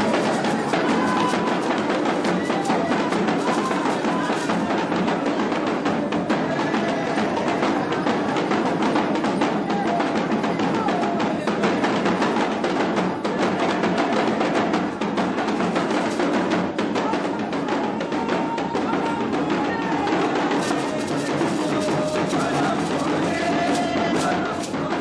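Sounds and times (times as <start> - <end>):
drums: 0.0 - 25.0
voices singing faintly: 0.0 - 25.0.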